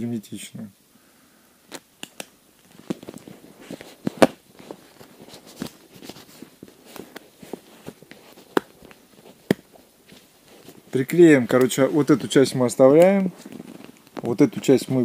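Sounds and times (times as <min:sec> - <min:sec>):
sharp tape crackle: 0:01.7 - 0:15.0.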